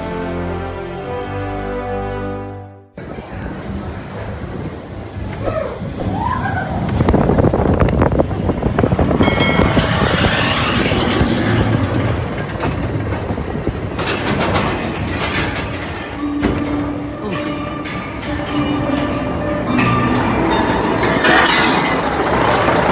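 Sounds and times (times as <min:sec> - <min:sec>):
roller coaster rolling and clattering: 0:03.0 - 0:22.9.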